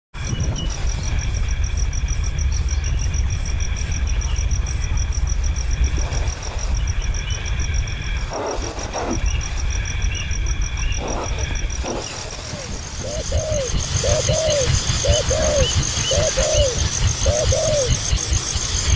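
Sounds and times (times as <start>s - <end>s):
insect's pulsing high trill: 0.2s - 18.9s
steady low rumble: 0.2s - 18.9s.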